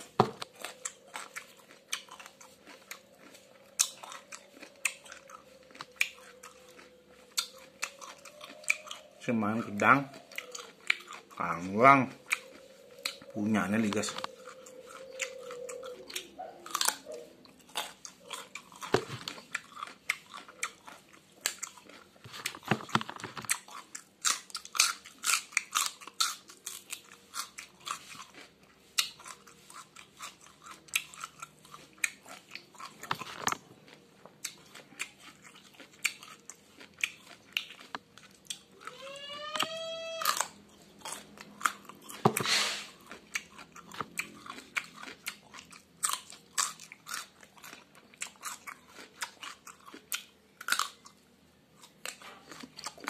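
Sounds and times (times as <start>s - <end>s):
crunching and chewing: 0.0s - 53.0s.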